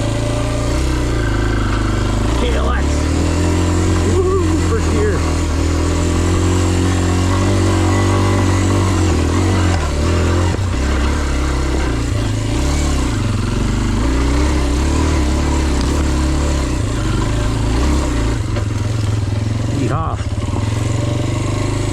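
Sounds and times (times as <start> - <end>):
dirt bike engine running: 0.0 - 21.9.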